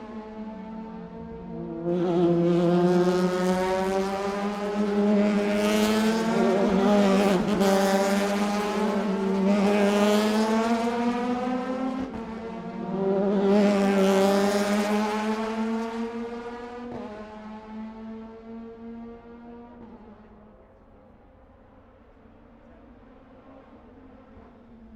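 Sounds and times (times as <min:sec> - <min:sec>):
race cars passing at high revs: 0:00.0 - 0:20.6, 0:21.2 - 0:24.9.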